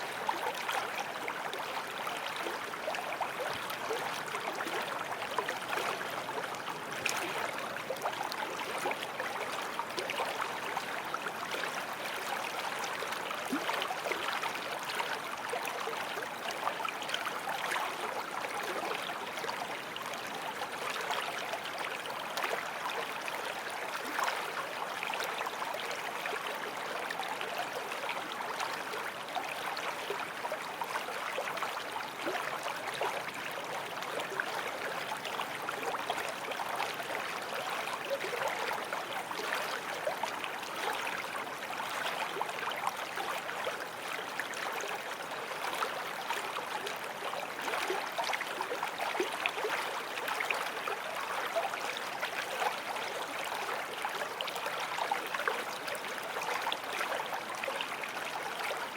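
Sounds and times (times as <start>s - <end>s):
stream flowing over stones: 0.0s - 58.9s.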